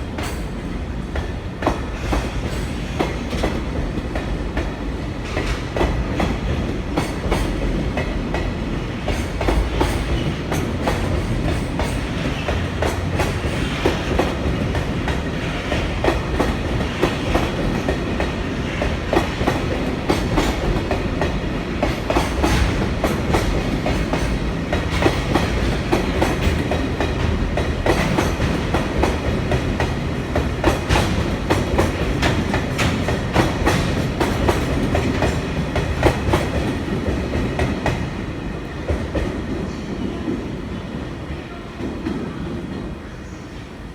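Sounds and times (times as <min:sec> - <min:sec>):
train wagons rolling past: 0:00.0 - 0:40.6.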